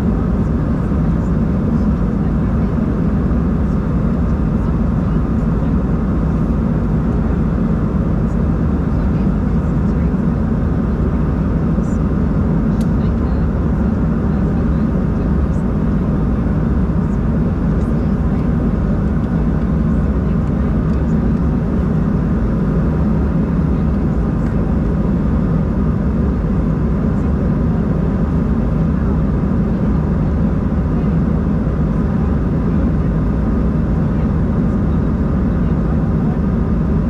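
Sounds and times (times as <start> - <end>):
jet engines droning: 0.0 - 37.0.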